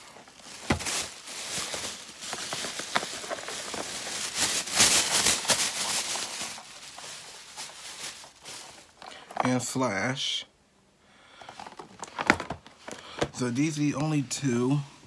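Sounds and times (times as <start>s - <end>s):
plastic bag rustling: 0.0s - 9.9s, 11.4s - 13.9s.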